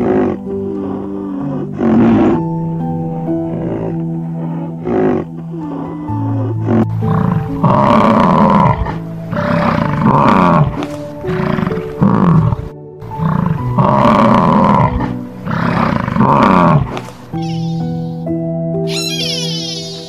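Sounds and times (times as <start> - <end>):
bison bellowing: 0.0 - 18.2
background music: 0.0 - 20.0.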